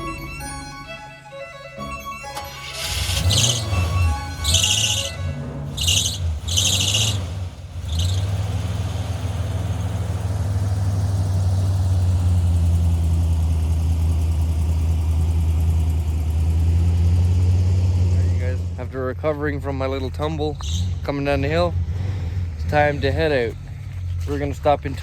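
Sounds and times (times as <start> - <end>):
van engine idling: 0.0 - 25.0.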